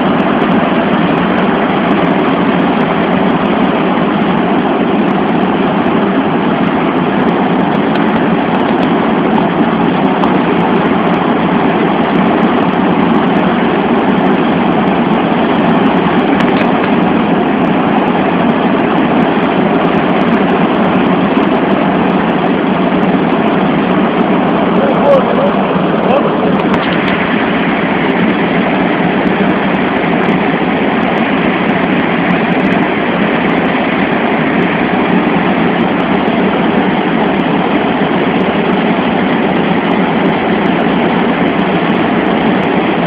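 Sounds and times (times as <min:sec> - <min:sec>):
jet engines and rushing air: 0:00.0 - 0:43.0.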